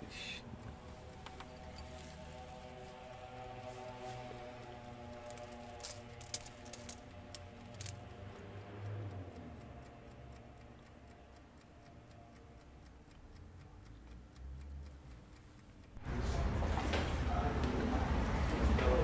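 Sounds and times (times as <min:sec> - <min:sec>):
faint even ticking: 0:00.0 - 0:16.1.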